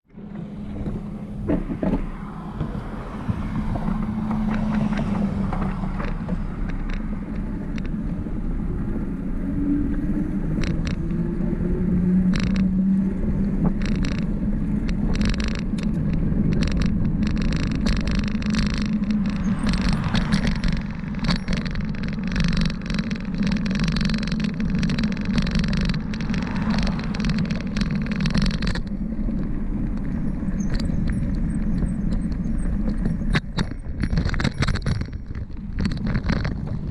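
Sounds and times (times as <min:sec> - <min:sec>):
motor traffic passing: 0:00.1 - 0:36.9
tyre rumble on road: 0:00.1 - 0:36.9
wind over microphone: 0:00.1 - 0:36.9
bike clattering over bumps: 0:00.2 - 0:08.2, 0:12.2 - 0:36.9.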